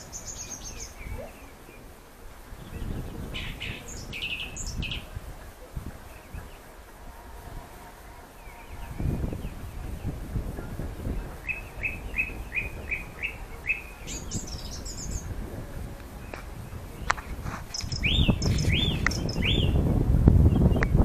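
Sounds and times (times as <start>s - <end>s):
songbirds singing: 0.0s - 21.0s
wind rumbling on microphone: 0.0s - 21.0s.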